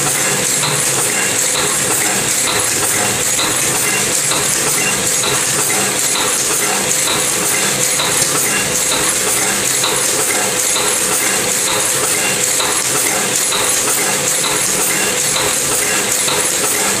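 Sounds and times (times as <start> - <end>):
motor hum: 0.0 - 17.0
printing press clattering: 0.0 - 17.0.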